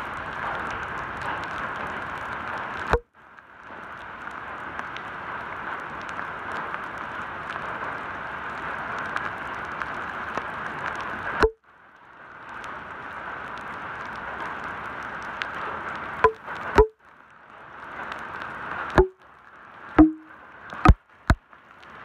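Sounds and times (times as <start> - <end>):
heavy rain on asphalt: 0.0 - 22.0.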